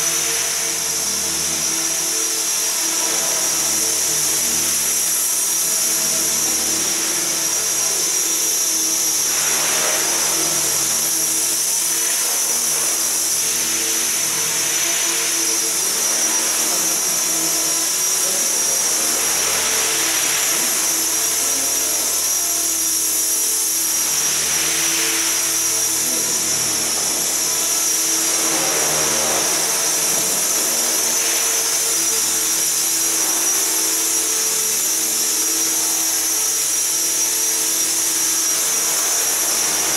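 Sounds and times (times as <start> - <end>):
electric motor whine: 0.0 - 39.9
helicopter rotor noise: 0.0 - 39.9.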